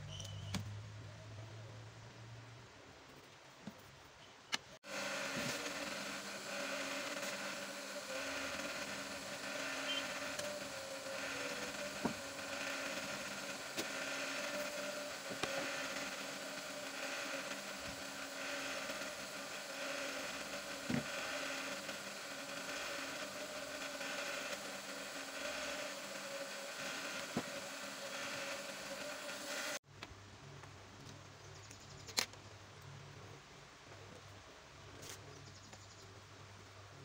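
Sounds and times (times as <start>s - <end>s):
mechanical hum: 4.8s - 37.0s.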